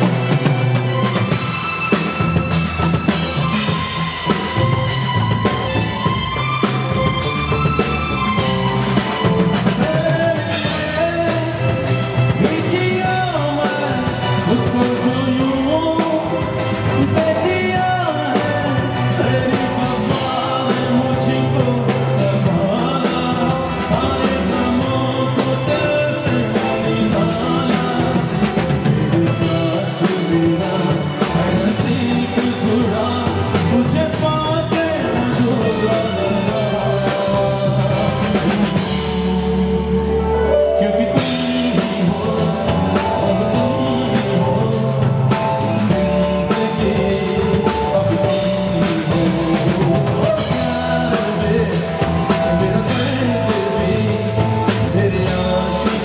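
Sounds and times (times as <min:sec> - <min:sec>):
drum kit: 0:00.0 - 0:56.0
keyboards: 0:00.0 - 0:56.0
man singing into microphone: 0:09.2 - 0:56.0.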